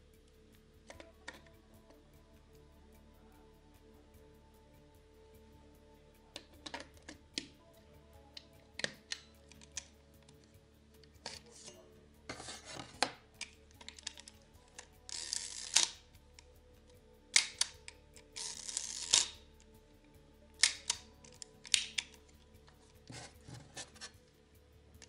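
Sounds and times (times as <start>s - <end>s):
quiet background music: 0.0s - 25.0s.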